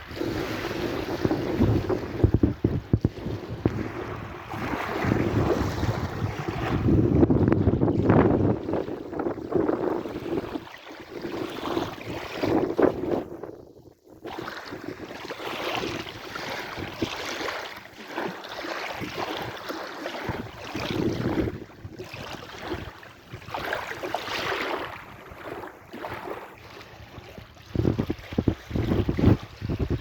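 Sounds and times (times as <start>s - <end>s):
sea waves washing in and out: 0.0s - 13.5s, 14.1s - 30.0s
wind buffeting microphone: 0.0s - 17.2s, 20.2s - 30.0s.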